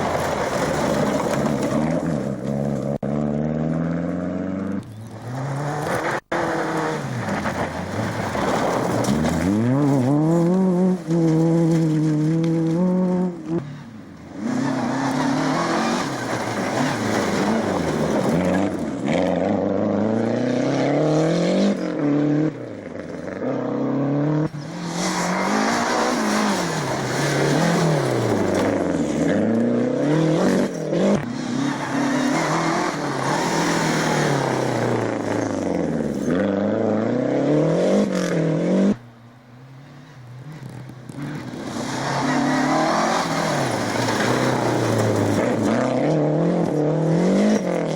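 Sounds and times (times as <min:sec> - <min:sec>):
rally car engines revving: 0:00.0 - 0:47.9.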